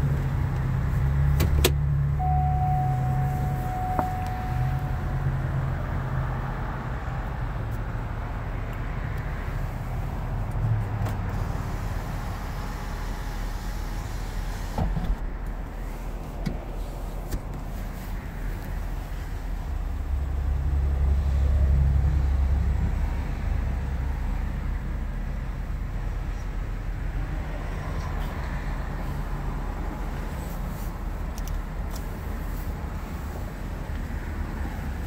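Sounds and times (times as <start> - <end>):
car engine rumbling in cabin: 0.0 - 35.0.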